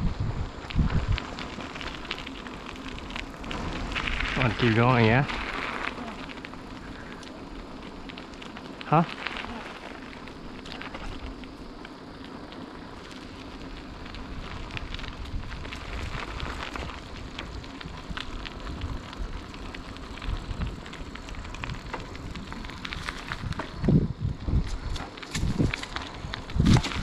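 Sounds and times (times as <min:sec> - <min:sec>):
bicycle tyres rolling on asphalt: 0:00.0 - 0:27.0
wind rumble on microphone: 0:00.0 - 0:27.0.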